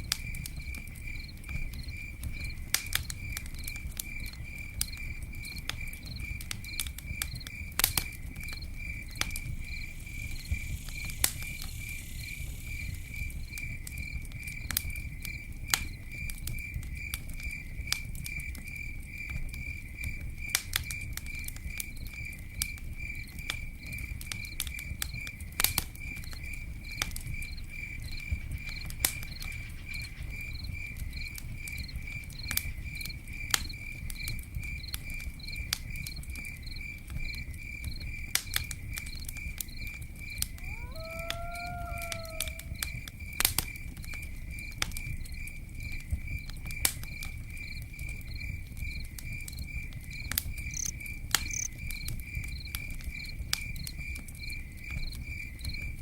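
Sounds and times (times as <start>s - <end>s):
campfire crackling and popping: 0.0s - 56.0s
cricket chirping: 0.0s - 56.0s.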